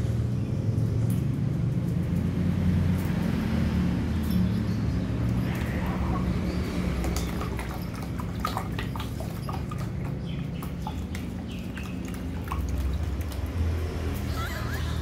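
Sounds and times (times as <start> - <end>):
puppies lapping water: 0.6 - 14.3.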